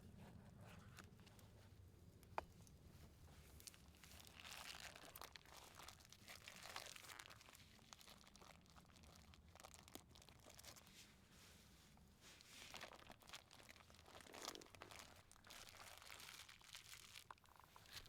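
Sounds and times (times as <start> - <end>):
faint crinkling and rustling: 0.0 - 18.0.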